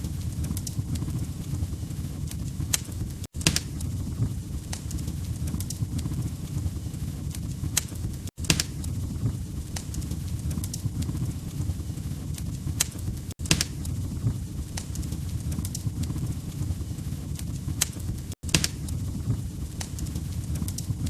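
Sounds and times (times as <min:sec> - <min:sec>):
burning logs rumble: 0:00.0 - 0:21.0
fire pops and snaps: 0:00.0 - 0:21.0.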